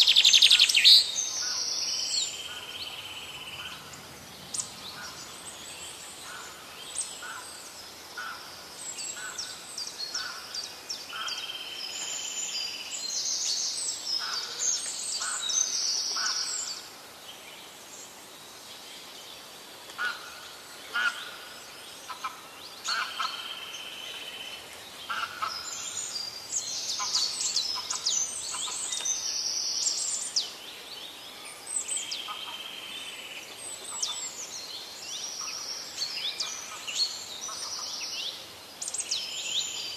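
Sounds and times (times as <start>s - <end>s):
birds chirping and calling: 0.0s - 17.0s, 19.9s - 39.9s.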